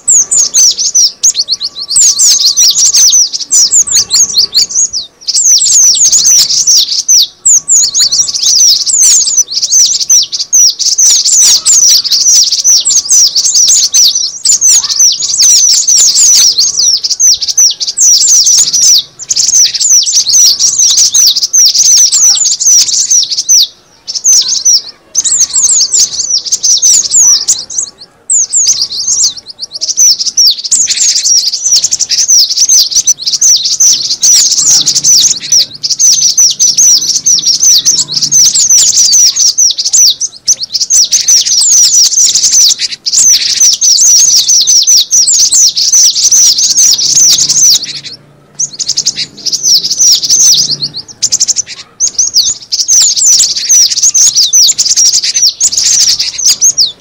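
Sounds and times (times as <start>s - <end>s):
bird rapid high chirping: 0.0s - 57.0s.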